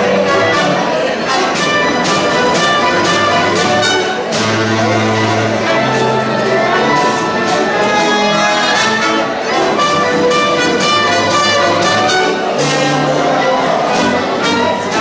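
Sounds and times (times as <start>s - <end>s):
orchestra playing sustained notes: 0.0s - 15.0s.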